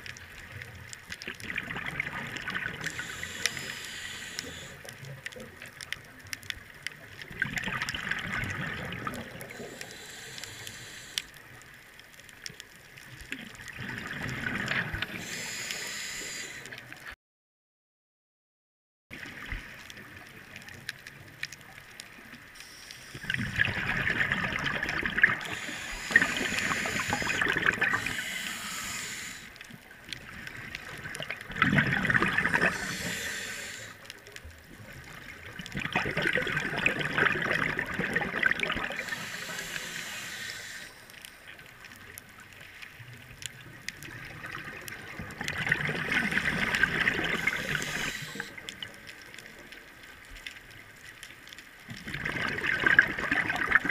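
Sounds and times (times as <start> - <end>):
scuba regulator bubbles underwater: 0.0 - 17.1, 19.1 - 53.9.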